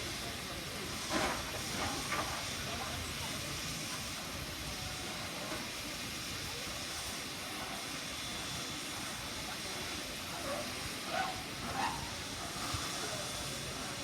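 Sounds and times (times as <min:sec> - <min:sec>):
faint voices: 0:00.0 - 0:14.0
steam hissing from locomotive: 0:00.0 - 0:14.0.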